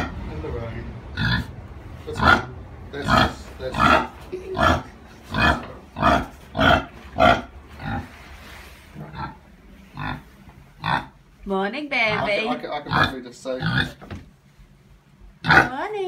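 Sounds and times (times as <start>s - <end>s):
pig grunting: 0.0s - 0.3s, 1.0s - 11.2s, 12.1s - 14.1s, 15.4s - 15.8s.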